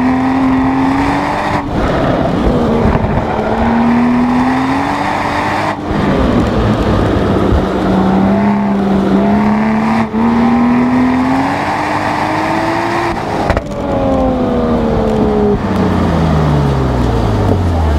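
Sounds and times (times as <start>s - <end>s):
car engine accelerating: 0.0s - 17.9s
tyre and wind noise: 0.0s - 17.9s.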